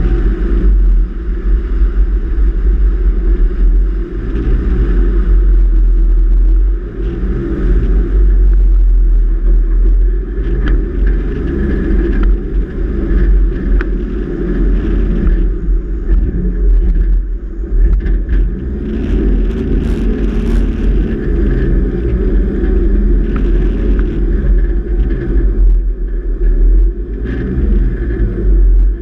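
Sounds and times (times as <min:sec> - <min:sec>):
vehicle driving over sand: 0:00.0 - 0:29.0.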